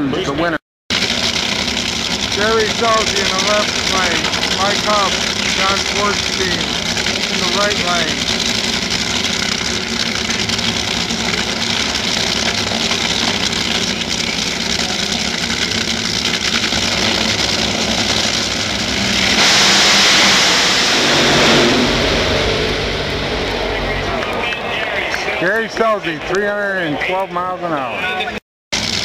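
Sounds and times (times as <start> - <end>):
race car engines roaring: 0.0 - 29.0
race car engines idling: 0.2 - 19.5, 21.0 - 29.0.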